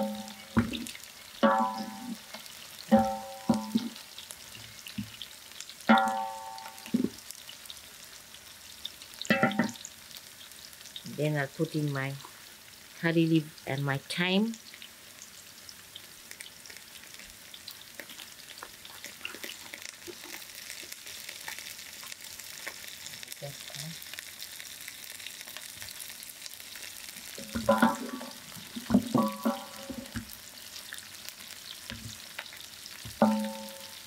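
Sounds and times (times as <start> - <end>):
onions sizzling in hot oil: 0.0 - 34.0.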